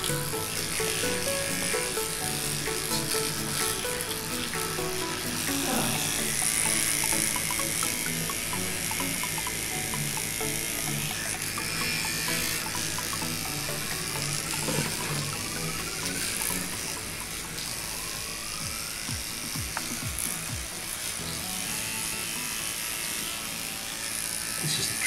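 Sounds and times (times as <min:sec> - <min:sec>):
background music: 0:00.0 - 0:24.2
electric toothbrush buzzing: 0:00.0 - 0:25.0.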